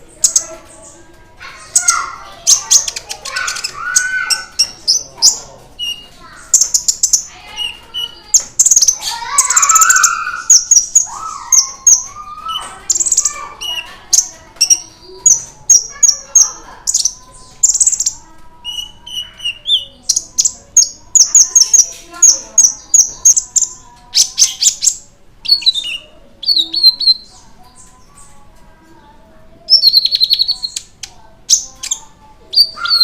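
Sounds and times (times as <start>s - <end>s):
bird singing high chirps: 1.6s - 28.4s, 29.7s - 33.0s.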